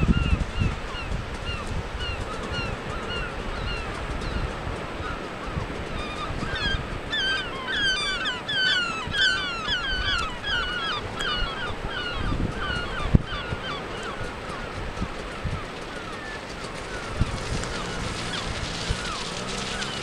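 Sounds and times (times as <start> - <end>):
flock of birds calling: 0.0 - 20.0
surf: 0.0 - 20.0
wind: 0.0 - 20.0.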